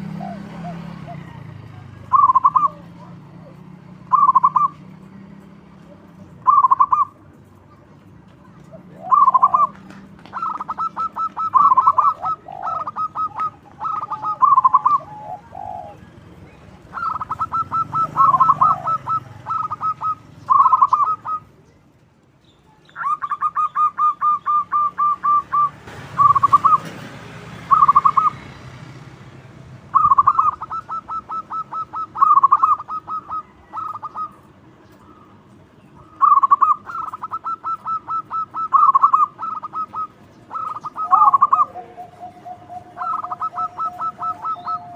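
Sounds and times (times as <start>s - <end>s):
dove cooing: 0.0s - 5.0s, 5.8s - 7.2s, 8.7s - 21.6s, 22.9s - 27.0s, 27.6s - 28.5s, 29.9s - 35.4s, 36.0s - 44.9s.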